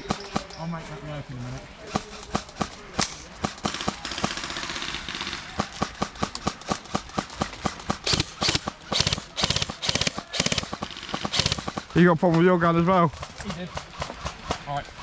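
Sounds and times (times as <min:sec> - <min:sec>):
airsoft guns firing: 0:00.0 - 0:00.6, 0:01.8 - 0:12.2, 0:12.9 - 0:14.8.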